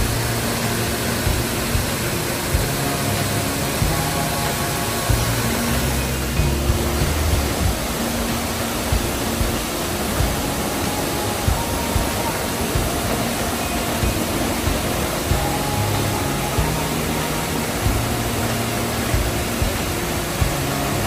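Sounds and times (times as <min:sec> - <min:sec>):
background music: 0:00.0 - 0:21.0
waterfall rushing: 0:00.0 - 0:21.0.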